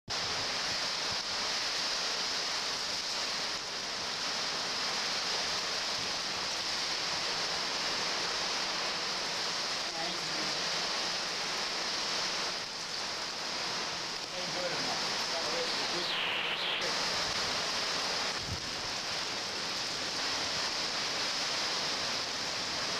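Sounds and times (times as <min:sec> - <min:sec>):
heavy rain: 0:00.1 - 0:22.9
wind hissing: 0:00.1 - 0:22.9.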